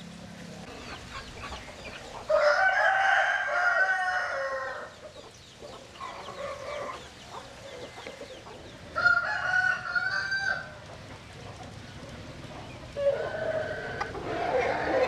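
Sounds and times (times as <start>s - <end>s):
roosters crowing: 0.8s - 15.0s.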